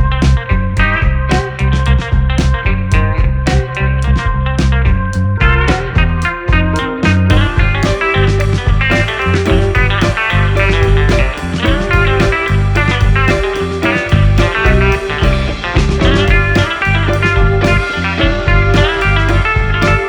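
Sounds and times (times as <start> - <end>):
upbeat guitar music with beat: 0.0 - 20.0.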